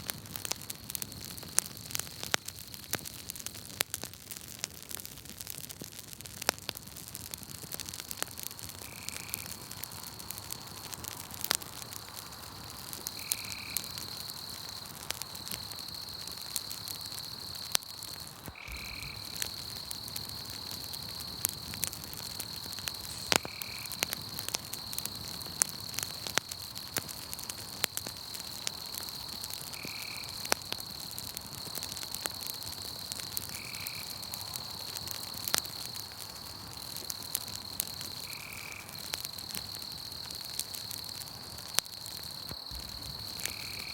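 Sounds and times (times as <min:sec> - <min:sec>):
campfire crackling and popping: 0:00.0 - 0:43.9
night insects trilling: 0:06.8 - 0:43.9.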